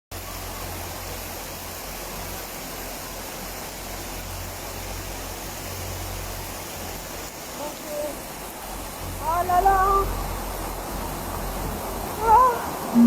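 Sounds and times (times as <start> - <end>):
heavy rain hissing: 0.1 - 13.0.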